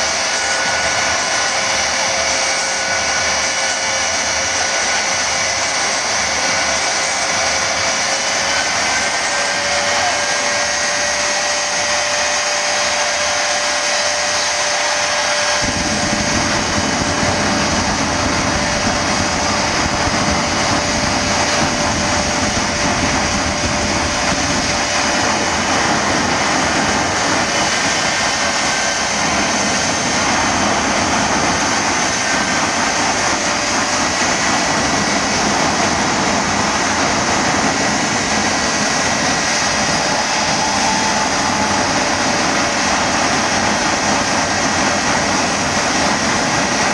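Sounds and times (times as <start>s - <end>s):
deep rumble: 0.0s - 46.9s
jet engine rushing and whining: 0.0s - 46.9s.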